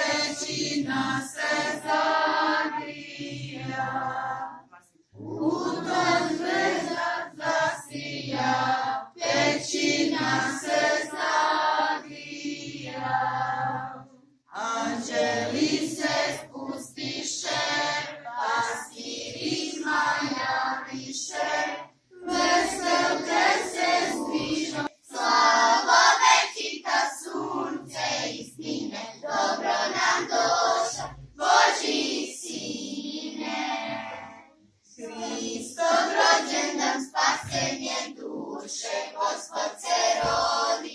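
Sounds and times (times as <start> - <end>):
children and women singing a carol: 0.0 - 40.9.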